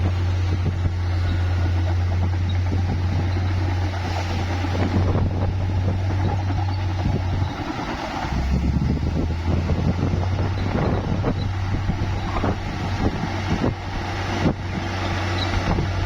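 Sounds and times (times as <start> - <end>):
bulldozer diesel engine droning: 0.0 - 16.0
wind buffeting microphone: 0.0 - 16.0.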